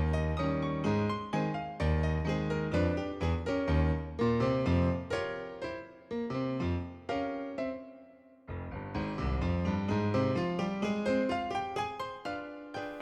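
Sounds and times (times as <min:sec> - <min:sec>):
piano notes: 0:00.0 - 0:13.0.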